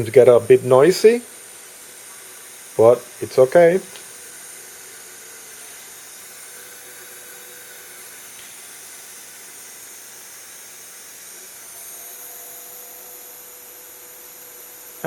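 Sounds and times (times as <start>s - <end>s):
hot-wire cutter hiss and whine: 0.0s - 15.0s.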